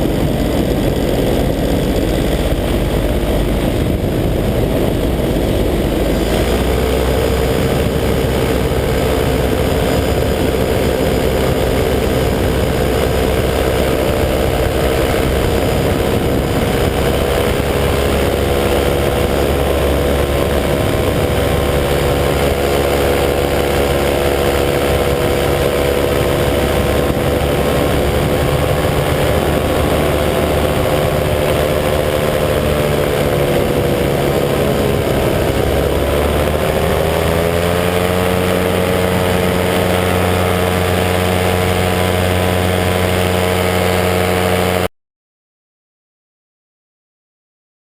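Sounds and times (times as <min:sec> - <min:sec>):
paramotor engine running: 0:00.0 - 0:44.9.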